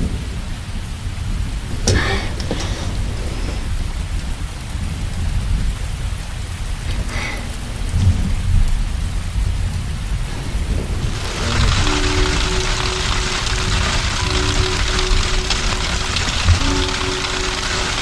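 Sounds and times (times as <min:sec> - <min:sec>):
deep rumble of thunder: 0:00.0 - 0:18.0
heavy rain falling: 0:00.0 - 0:18.0
hail falling: 0:01.4 - 0:18.0.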